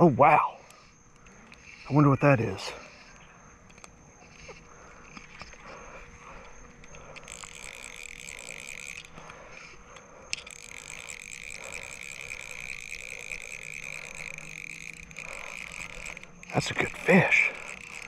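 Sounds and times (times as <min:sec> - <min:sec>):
animals calling with pulsing buzz: 0:00.0 - 0:18.0.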